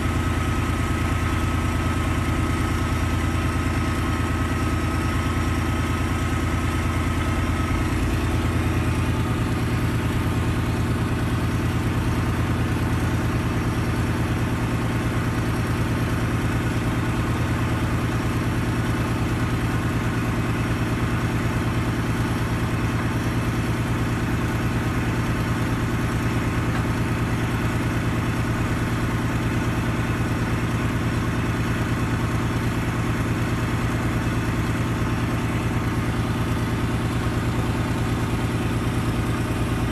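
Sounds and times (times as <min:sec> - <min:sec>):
heavy diesel engine idling: 0:00.0 - 0:39.9.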